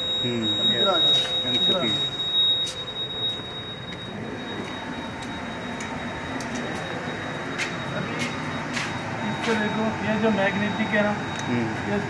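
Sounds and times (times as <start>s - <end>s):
high-pitched buzzer tone: 0.0s - 12.0s.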